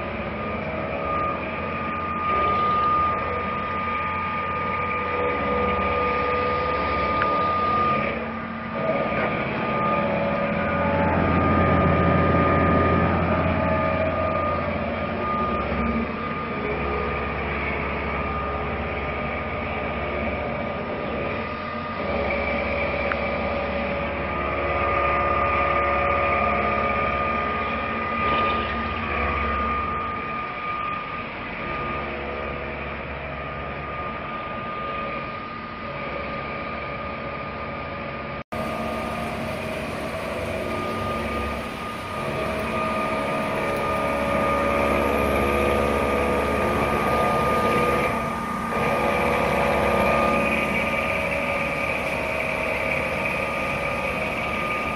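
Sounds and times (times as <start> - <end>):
machine high whine: 0.0 - 54.9
machine low hum: 0.0 - 54.9
machine lower tones: 0.0 - 54.9.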